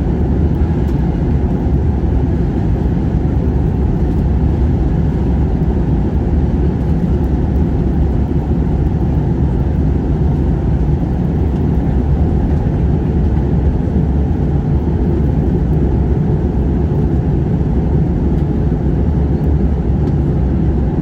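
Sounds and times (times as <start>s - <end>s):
airliner engines rumbling: 0.0s - 21.0s
faint constant hum: 0.0s - 21.0s.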